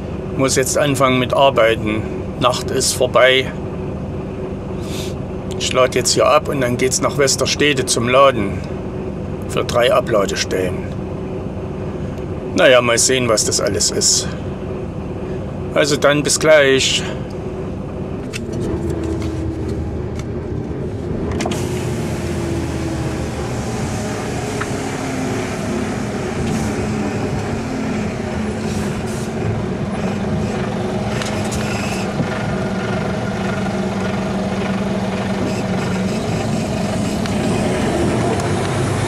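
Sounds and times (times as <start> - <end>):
truck diesel engine: 0.0 - 39.0.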